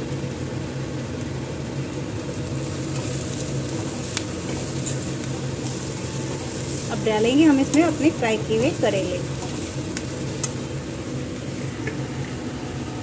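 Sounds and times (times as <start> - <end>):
masala sizzling in a pan: 0.0 - 13.0.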